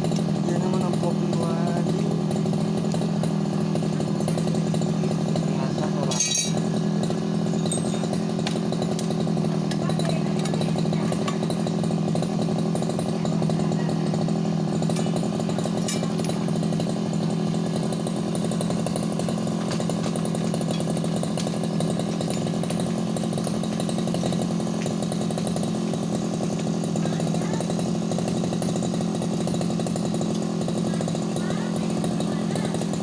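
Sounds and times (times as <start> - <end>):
brush cutter engine running: 0.0 - 33.0.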